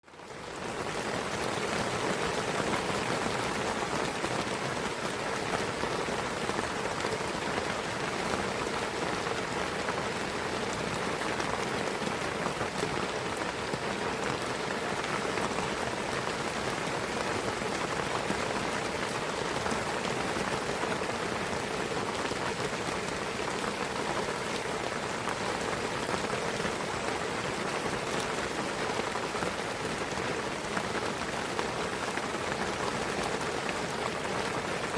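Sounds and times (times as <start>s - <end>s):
rain on foliage: 0.0s - 34.9s.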